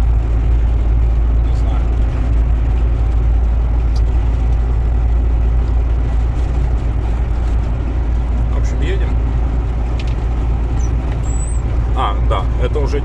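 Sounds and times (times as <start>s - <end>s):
road rumble: 0.0s - 13.0s
truck engine drone: 0.0s - 13.0s.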